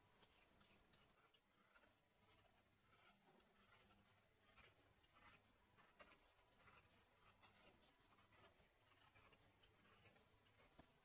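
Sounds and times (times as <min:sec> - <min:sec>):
vegetable peeler scraping: 0:00.0 - 0:11.0.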